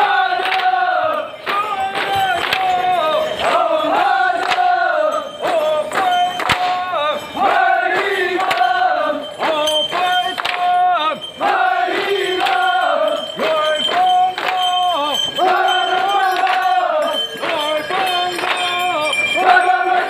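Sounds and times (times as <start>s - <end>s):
group chanting in unison: 0.0s - 14.6s, 15.4s - 20.0s.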